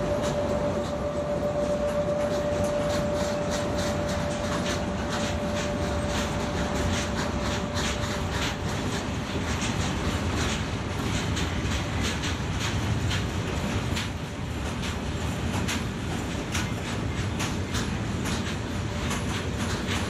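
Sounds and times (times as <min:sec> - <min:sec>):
clanking wheels and couplings: 0:00.0 - 0:20.0
train wheels rumbling on rail: 0:00.0 - 0:20.0.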